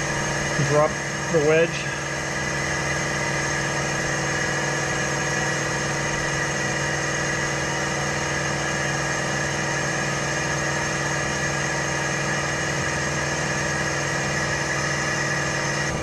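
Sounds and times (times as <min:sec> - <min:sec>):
air compressors humming: 0:00.0 - 0:16.0.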